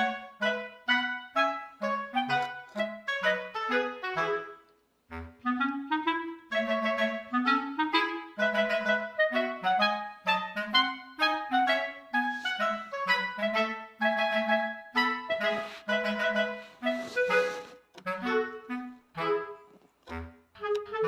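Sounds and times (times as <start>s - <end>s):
bouncy clarinet-like melody: 0.0s - 21.0s.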